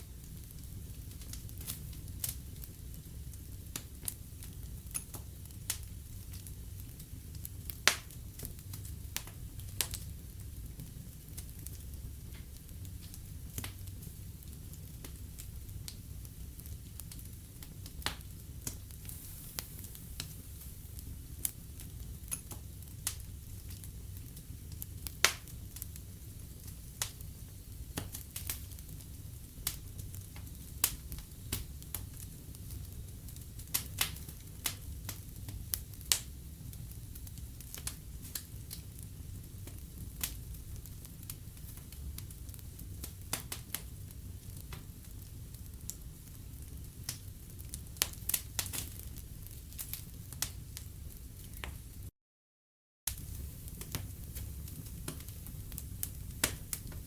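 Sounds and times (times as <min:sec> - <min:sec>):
fireplace fire crackling: 0:00.0 - 0:52.1, 0:53.1 - 0:57.0.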